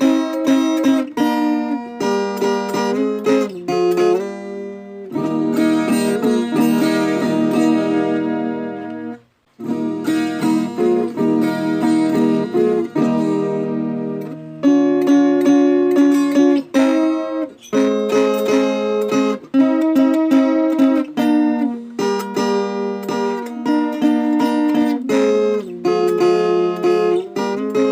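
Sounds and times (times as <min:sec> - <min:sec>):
folk guitar plucked and strummed: 0:00.0 - 0:27.9.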